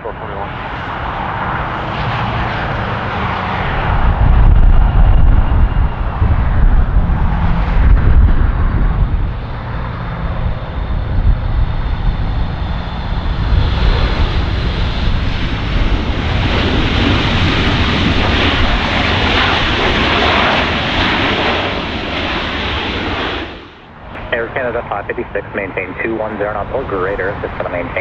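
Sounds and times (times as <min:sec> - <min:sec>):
jet engine rumble: 0:00.0 - 0:28.0.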